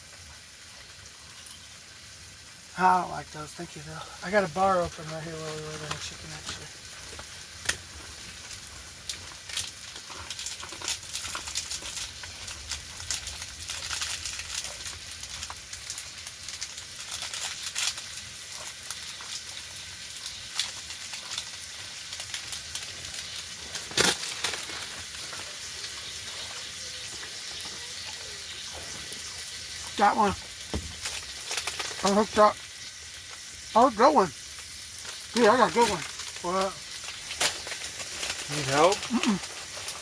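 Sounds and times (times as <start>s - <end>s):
chicken frying sizzle: 0.0s - 40.0s
fat crackling and popping: 0.0s - 40.0s.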